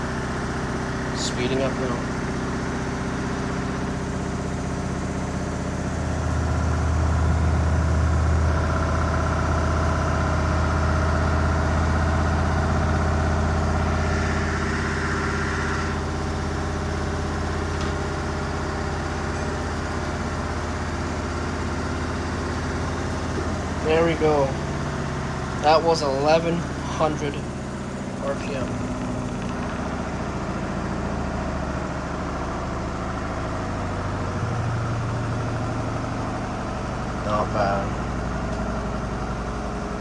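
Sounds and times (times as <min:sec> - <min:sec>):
washing machine spin rumble: 0:00.0 - 0:40.0.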